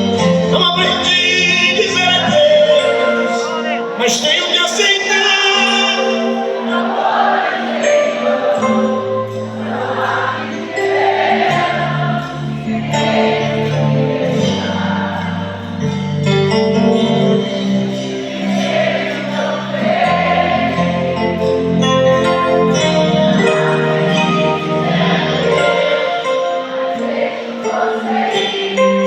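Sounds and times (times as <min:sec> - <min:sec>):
band playing slow ballad: 0:00.0 - 0:29.0.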